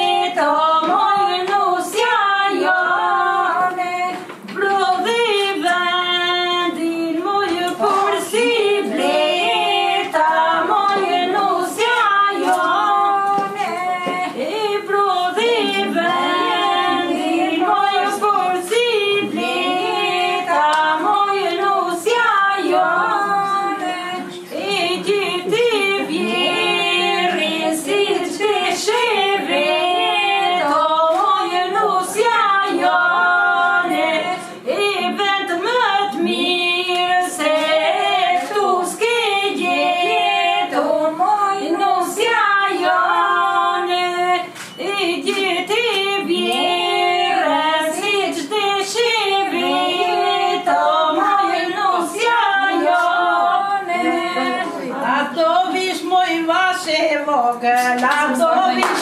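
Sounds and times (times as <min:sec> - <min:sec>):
women singing together: 0:00.0 - 0:59.0.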